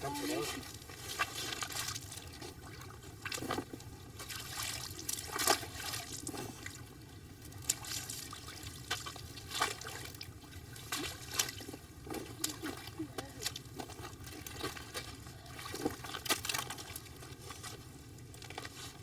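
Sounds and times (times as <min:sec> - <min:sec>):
water trickling and sloshing: 0:00.0 - 0:19.0
small clicks and splashes: 0:00.4 - 0:19.0.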